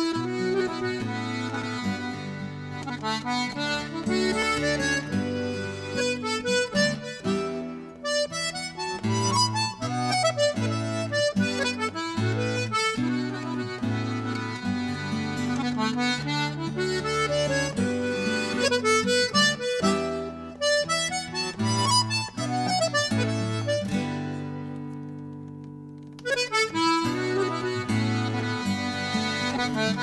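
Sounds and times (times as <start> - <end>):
button accordion folk tune: 0.0 - 25.0, 26.2 - 30.0.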